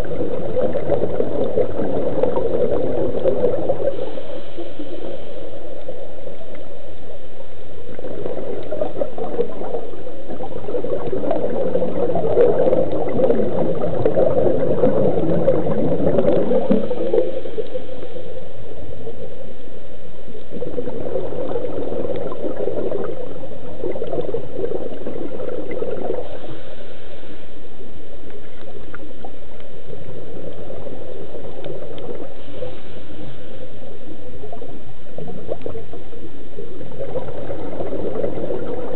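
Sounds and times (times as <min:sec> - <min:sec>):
underwater regulator bubbling: 0:00.0 - 0:38.9.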